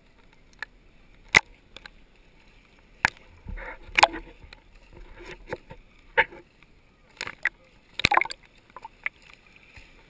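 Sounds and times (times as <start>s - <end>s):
water sloshing: 1.2s - 10.0s.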